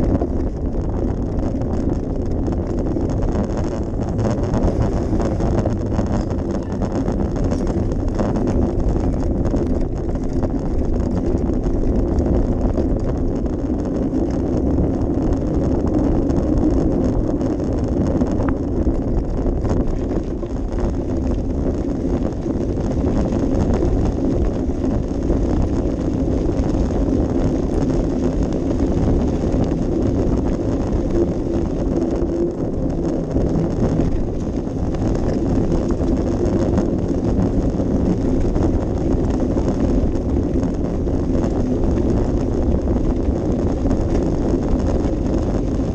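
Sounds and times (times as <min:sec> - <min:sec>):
faint hum: 0:00.0 - 0:45.9
wind rumble on microphone: 0:00.0 - 0:45.9.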